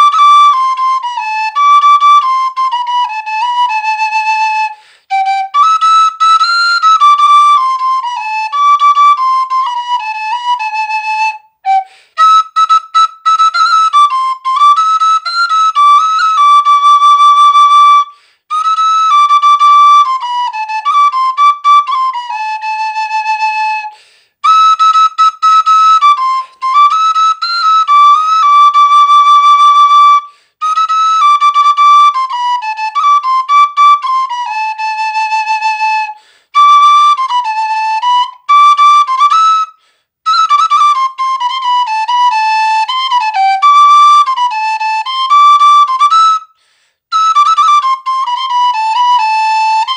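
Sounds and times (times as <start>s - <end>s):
wooden flute melody: 0.0s - 49.9s.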